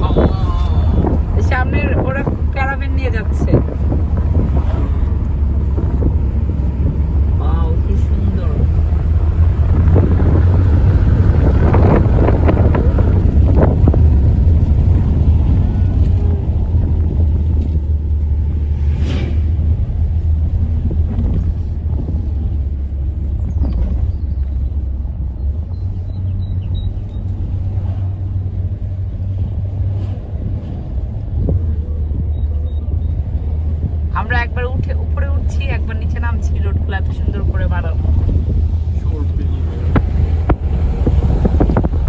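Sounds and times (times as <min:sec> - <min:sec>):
car engine and tyres rumbling: 0:00.0 - 0:42.0.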